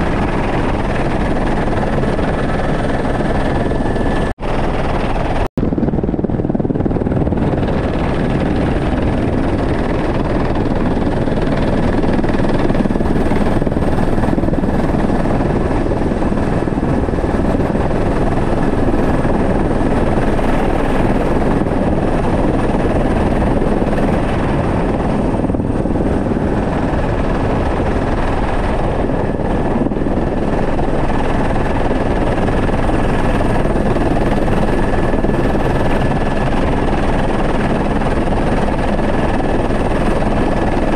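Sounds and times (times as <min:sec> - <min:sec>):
helicopter rotor and engine din: 0:00.0 - 0:40.9.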